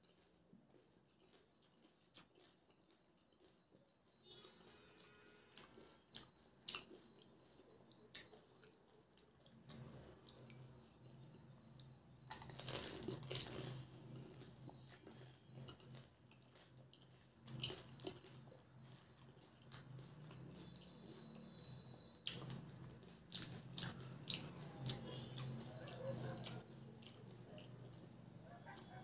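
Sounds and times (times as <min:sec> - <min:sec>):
faint low hum: 0:00.0 - 0:29.0
wet chewing: 0:00.0 - 0:29.0.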